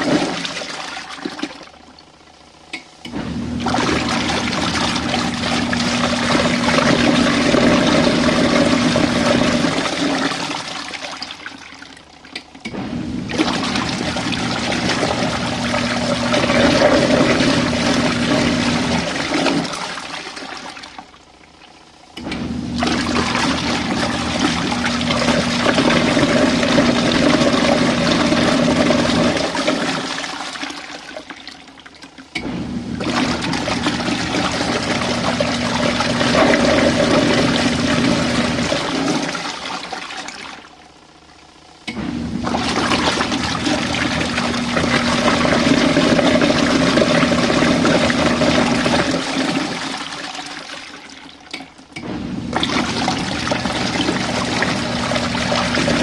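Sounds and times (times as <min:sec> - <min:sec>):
washing machine motor humming: 0:00.0 - 0:56.0
water swishing and churning: 0:03.1 - 0:21.2, 0:22.2 - 0:40.8, 0:42.0 - 0:56.0.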